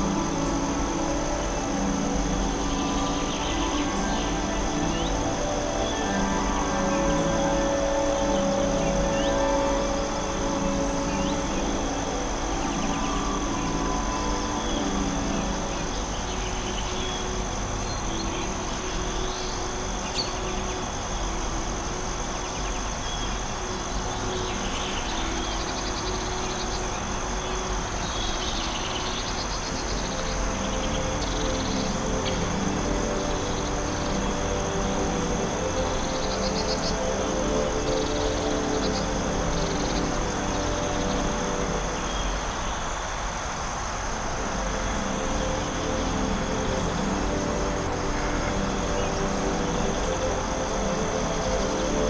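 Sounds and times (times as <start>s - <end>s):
background hiss: 0.0s - 52.0s
insect drone: 0.0s - 52.0s
soft ambient music tones: 0.0s - 52.0s.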